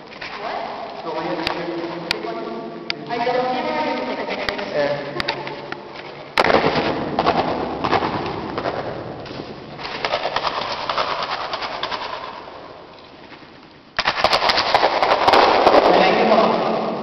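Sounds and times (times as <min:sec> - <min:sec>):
firework crackling hiss echoing: 0:00.0 - 0:17.0.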